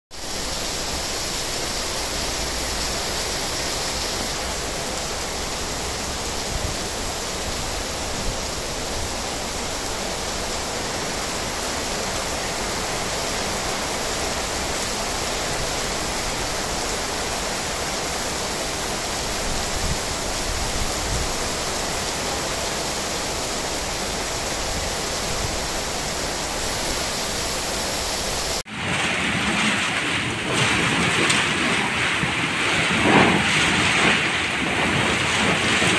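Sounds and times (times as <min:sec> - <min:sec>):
heavy rain pouring: 0:00.1 - 0:35.9.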